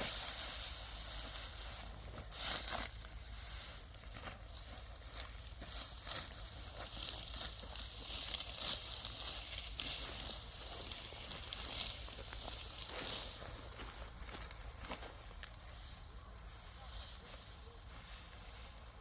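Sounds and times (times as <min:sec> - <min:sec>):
dry wheat stalks rustling: 0:00.0 - 0:19.0.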